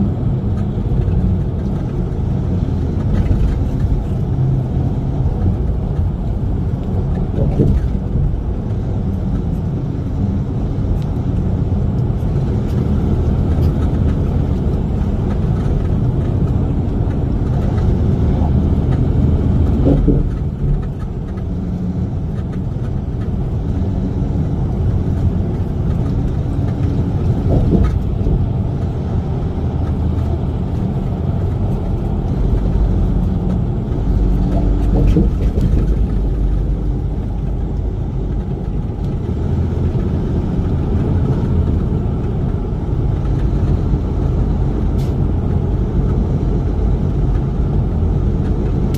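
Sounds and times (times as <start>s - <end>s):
road noise: 0.0s - 48.9s.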